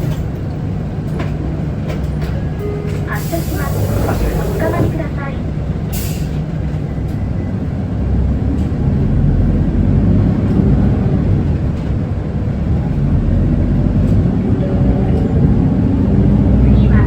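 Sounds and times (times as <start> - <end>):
bus diesel engine accelerating: 0.0 - 17.0
road noise: 0.0 - 17.0.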